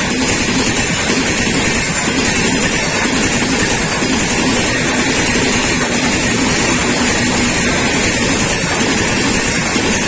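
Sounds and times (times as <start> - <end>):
train wheels rolling on rail: 0.0 - 10.0.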